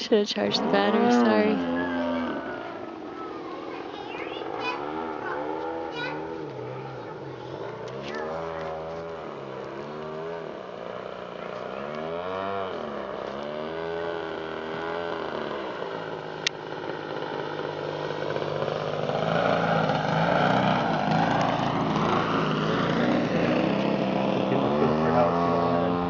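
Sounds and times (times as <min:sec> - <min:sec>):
model plane engine and propeller: 0:00.0 - 0:26.0.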